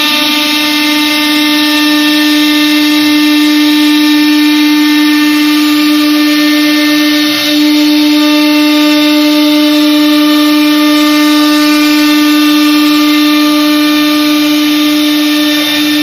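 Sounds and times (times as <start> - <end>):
cutter routing wood panel: 0.0 - 16.0
router spindle motor whine: 0.0 - 16.0.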